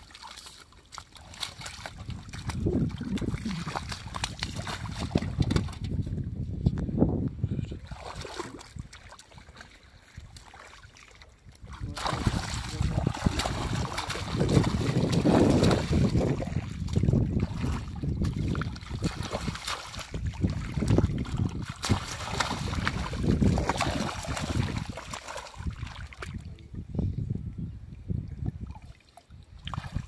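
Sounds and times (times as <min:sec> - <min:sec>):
hands splashing in shallow water: 0:00.0 - 0:06.0, 0:07.8 - 0:26.5, 0:28.6 - 0:30.0.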